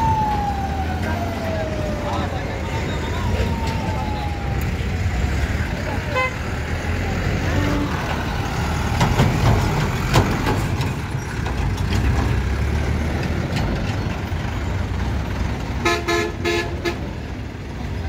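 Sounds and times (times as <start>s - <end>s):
truck diesel engines running: 0.0s - 18.0s.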